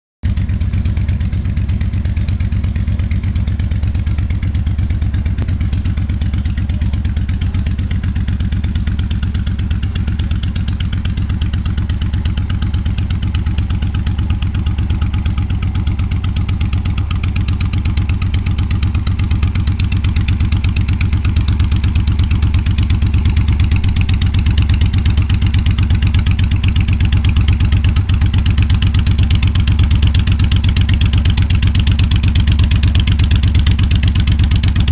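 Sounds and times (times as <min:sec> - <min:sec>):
motorcycle engine running: 0:00.2 - 0:34.9.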